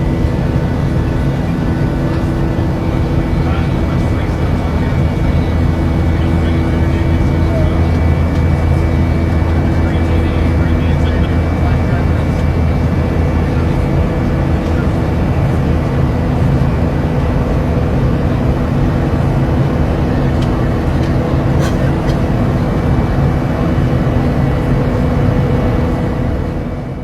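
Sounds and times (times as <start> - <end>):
jet engines and airflow rushing: 0.0 - 27.0
steady hum tones: 0.0 - 27.0.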